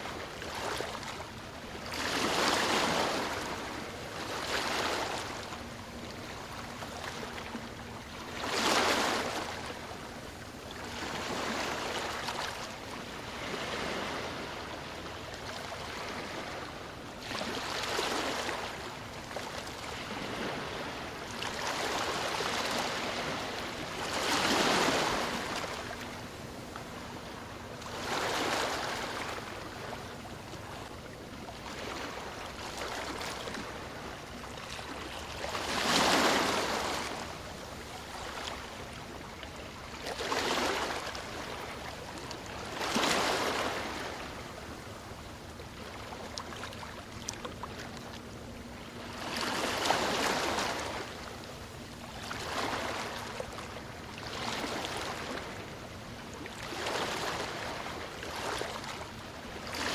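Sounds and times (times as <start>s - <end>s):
ocean waves washing ashore: 0.0s - 59.9s.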